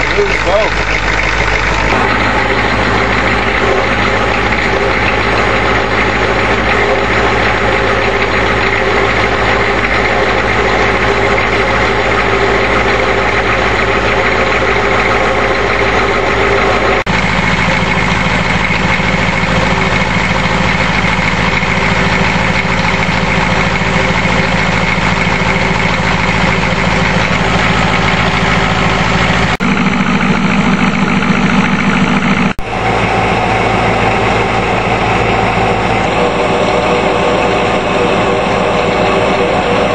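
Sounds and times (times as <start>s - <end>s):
diesel engine clattering idle: 0.0s - 39.9s.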